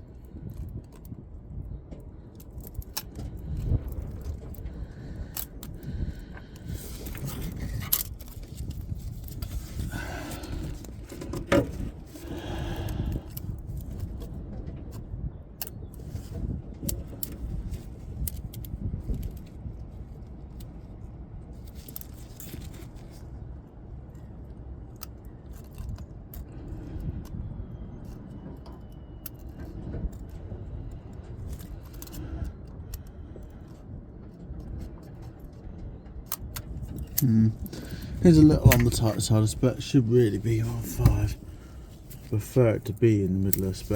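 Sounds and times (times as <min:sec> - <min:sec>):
steady low rumble: 0:00.0 - 0:43.9.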